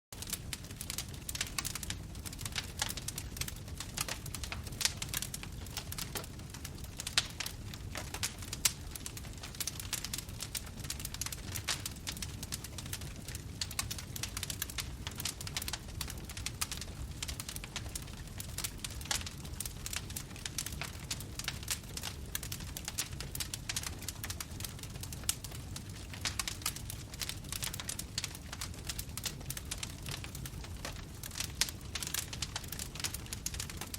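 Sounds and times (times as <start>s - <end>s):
fire crackling: 0.2s - 33.9s.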